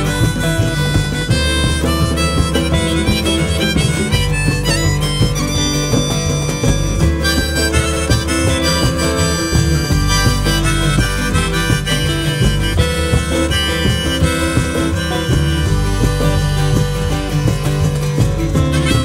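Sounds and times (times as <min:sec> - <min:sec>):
guitar: 0:00.0 - 0:19.0
harmonica lead: 0:00.0 - 0:19.0
steady bass line: 0:00.0 - 0:19.0.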